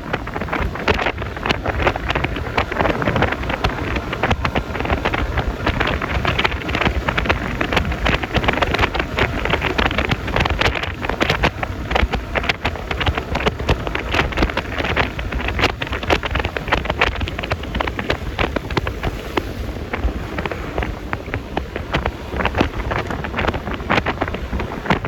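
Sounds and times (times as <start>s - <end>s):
scooter engine riding: 0.0s - 25.0s
wind buffeting microphone: 0.0s - 25.0s.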